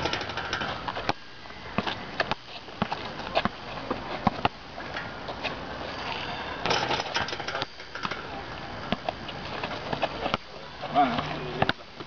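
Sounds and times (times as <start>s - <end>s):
basketballs bouncing on concrete: 0.0s - 4.6s, 6.6s - 12.0s.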